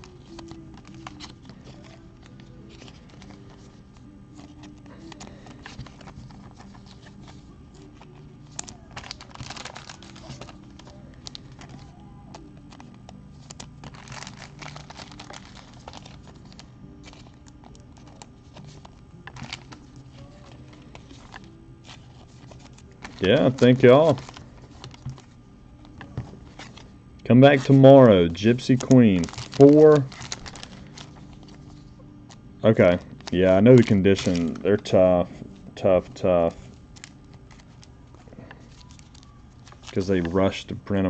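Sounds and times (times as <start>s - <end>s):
cards being shuffled and clicked: 0.0s - 27.8s, 28.4s - 35.6s
faint background music: 0.0s - 41.0s
plastic sleeves crinkling: 0.0s - 41.0s.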